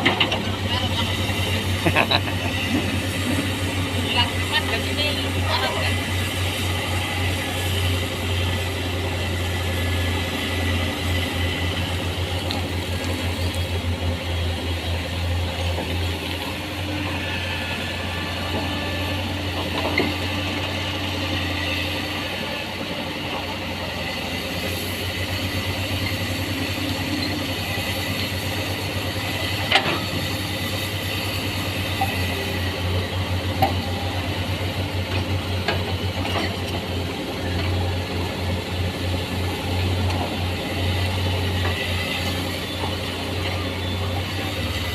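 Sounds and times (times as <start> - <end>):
diesel engine pulsing drone: 0.0 - 44.9.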